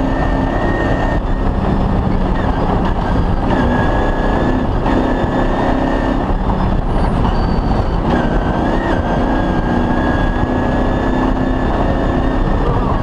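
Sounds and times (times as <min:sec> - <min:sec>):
vehicle engine running under load: 0:00.0 - 0:13.0.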